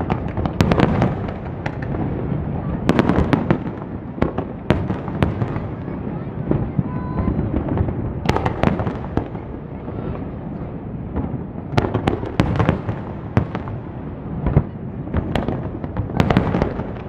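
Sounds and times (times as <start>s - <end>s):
fireworks pops and crackles: 0.0s - 17.0s
fireworks rumble: 0.0s - 17.0s
heavy fireworks boom: 0.0s - 17.0s.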